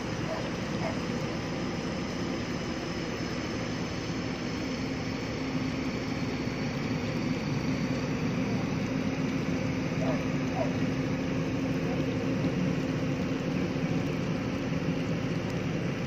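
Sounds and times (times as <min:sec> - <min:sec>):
excavator diesel engine running: 0:00.0 - 0:16.0
low steady hum: 0:00.0 - 0:16.0.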